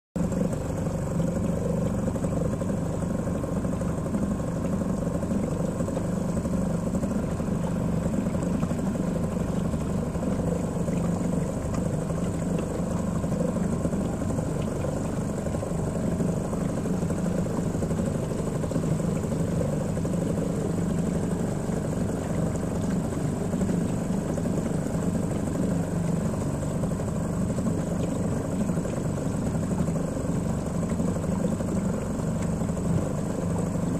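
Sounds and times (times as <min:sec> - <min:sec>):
outboard motor running: 0:00.2 - 0:33.9.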